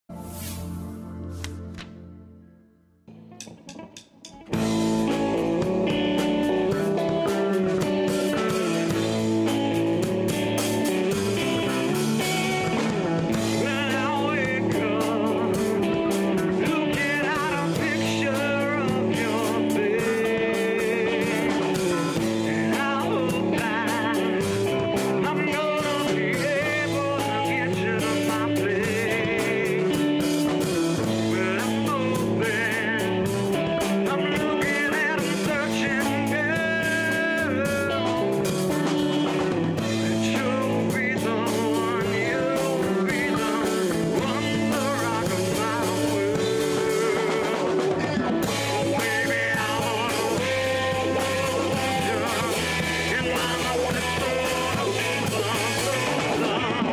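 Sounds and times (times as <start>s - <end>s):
rock band playing live: 0.0s - 56.9s.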